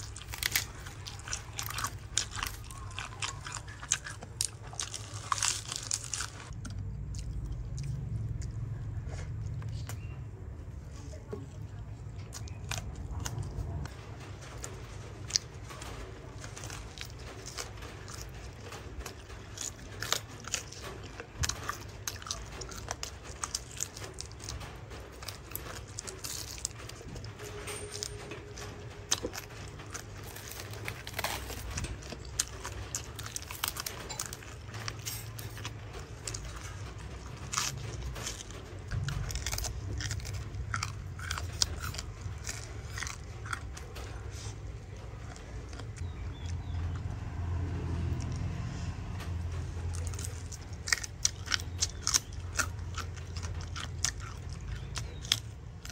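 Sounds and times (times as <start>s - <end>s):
crisp clicks and crunches: 0.0s - 55.9s
steady low rumble: 0.0s - 55.9s.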